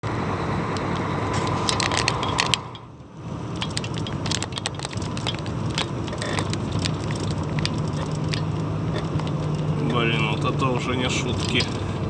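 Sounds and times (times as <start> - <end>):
truck engine rumble: 0.0 - 12.0
sharp clicks and crackles: 0.7 - 11.8.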